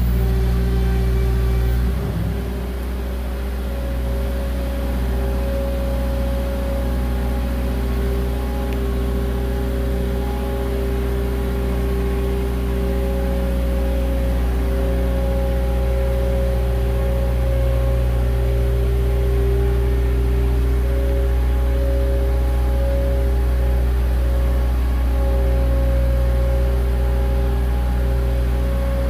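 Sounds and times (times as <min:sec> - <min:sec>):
loader engine humming: 0:00.0 - 0:29.0.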